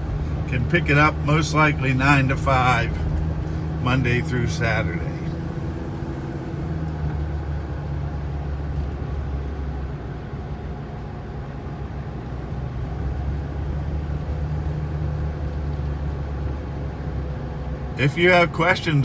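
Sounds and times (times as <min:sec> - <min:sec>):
road noise: 0:00.0 - 0:19.0
truck engine running: 0:00.0 - 0:19.0.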